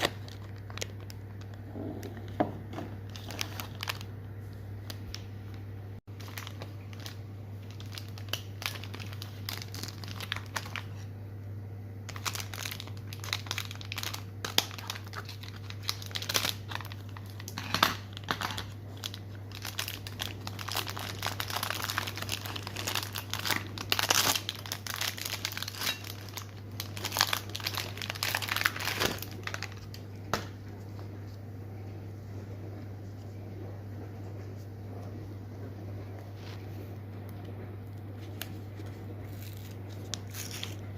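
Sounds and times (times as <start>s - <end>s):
packaging crinkling and rustling: 0.0s - 11.2s, 12.0s - 31.5s, 35.9s - 40.9s
steady low hum: 0.0s - 40.9s.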